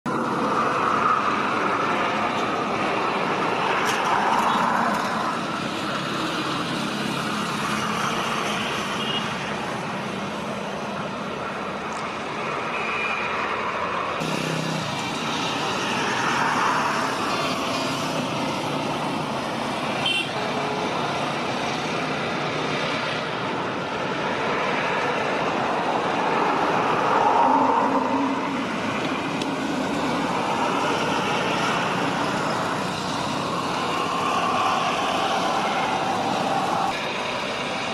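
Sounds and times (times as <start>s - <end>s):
distant engines rumbling: 0.1s - 37.9s.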